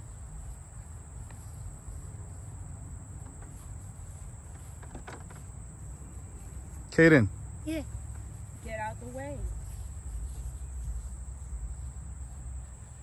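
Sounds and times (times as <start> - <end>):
insects chirring: 0.0 - 13.0
low outdoor rumble: 0.0 - 13.0.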